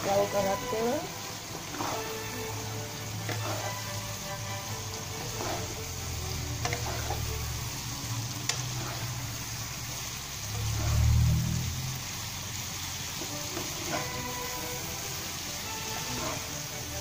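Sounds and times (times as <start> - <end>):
chicken sizzling in sauce: 0.0 - 17.0
spatula scraping a wok: 0.0 - 17.0.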